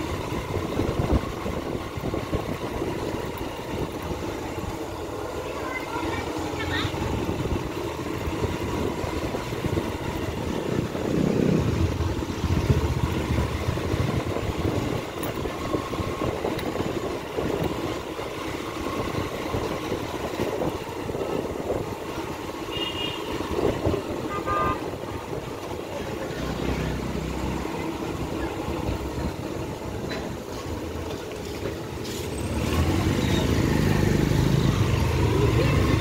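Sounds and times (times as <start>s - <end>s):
motorbike engine rumbling: 0.0s - 36.0s.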